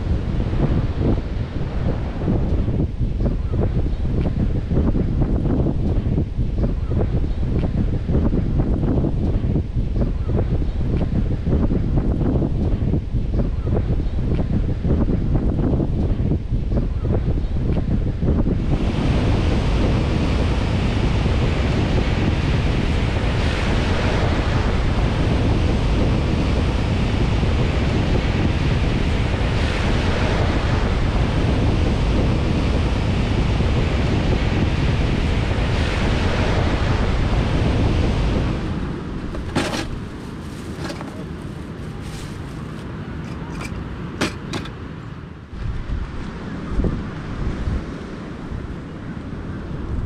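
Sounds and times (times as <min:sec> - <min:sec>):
beach surf: 0:00.0 - 0:16.4, 0:17.2 - 0:50.0
wind buffeting microphone: 0:00.0 - 0:50.0.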